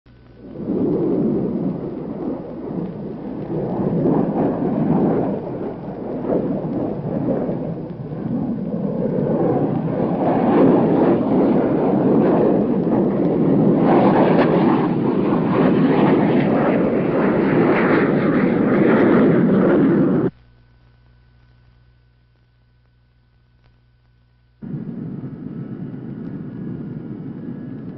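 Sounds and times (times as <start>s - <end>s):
jet engine roaring: 0.3s - 20.3s, 24.6s - 27.9s.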